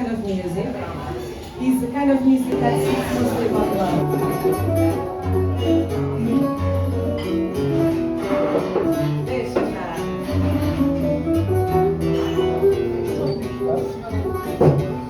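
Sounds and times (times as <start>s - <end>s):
plucked acoustic guitar music: 2.5s - 15.0s.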